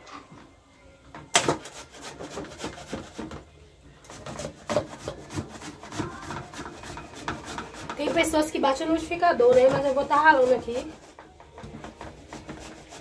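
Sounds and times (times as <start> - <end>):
grater rasping: 1.5 - 3.3, 4.1 - 13.0.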